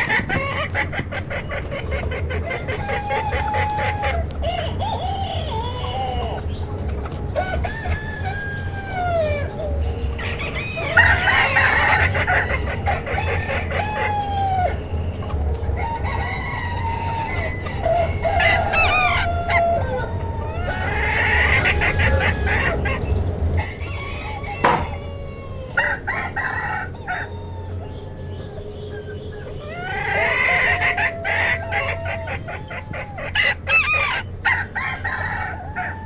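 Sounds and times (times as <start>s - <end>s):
hens clucking and cackling: 0.0s - 36.0s
roosters crowing: 0.0s - 36.0s
steady low hum: 0.0s - 36.0s.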